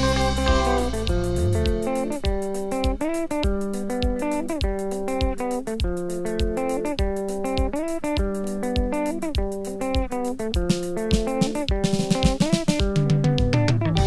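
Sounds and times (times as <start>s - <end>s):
bass guitar: 0.0s - 14.0s
drum beat: 0.0s - 14.0s
electric guitar lines: 0.0s - 14.0s.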